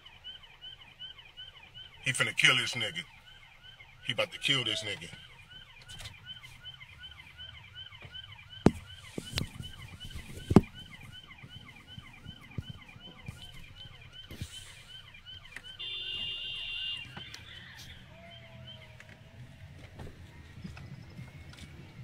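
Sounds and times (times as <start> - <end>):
police siren yelp: 0.0 - 22.0.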